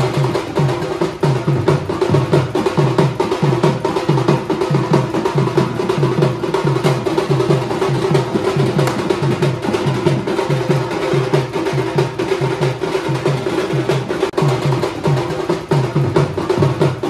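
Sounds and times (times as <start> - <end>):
fast drum beat: 0.0 - 17.0.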